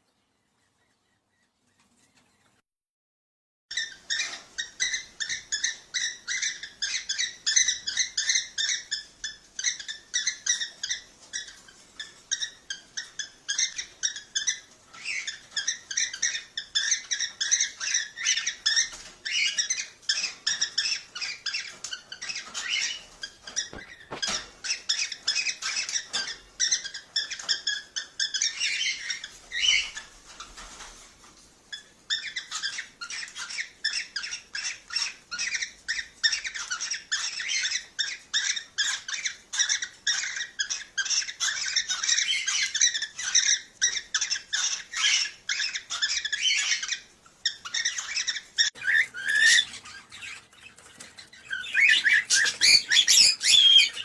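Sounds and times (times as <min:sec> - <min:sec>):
cockatiels chirping: 0:03.7 - 0:31.0, 0:31.7 - 0:54.0.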